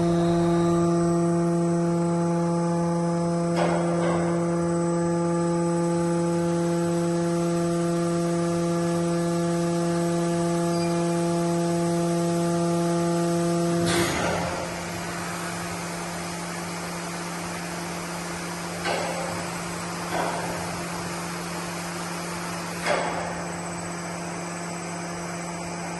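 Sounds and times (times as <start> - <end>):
machine electric hum: 0.0 - 25.9.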